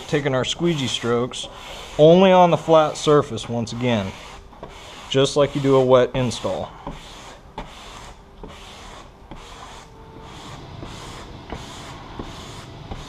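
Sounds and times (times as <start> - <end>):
squeegee scraping on vinyl film: 0.0 - 13.0.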